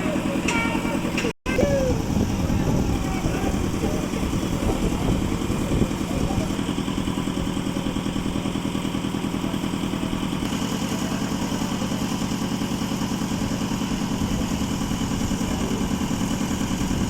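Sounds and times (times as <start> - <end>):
concrete mixer engine running: 0.0 - 17.0.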